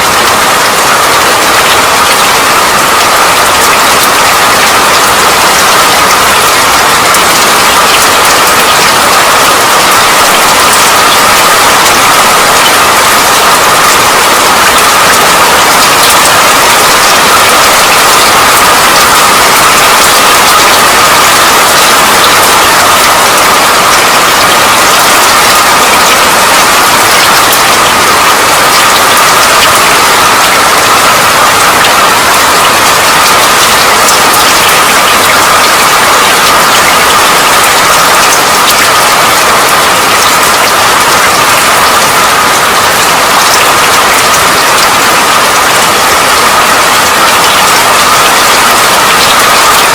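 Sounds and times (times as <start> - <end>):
steady rain: 0.0 - 49.9.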